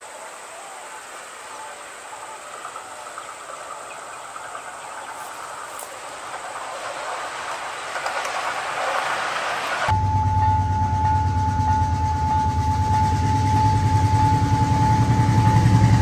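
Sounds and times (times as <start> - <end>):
diesel locomotive approaching: 0.4 - 16.0.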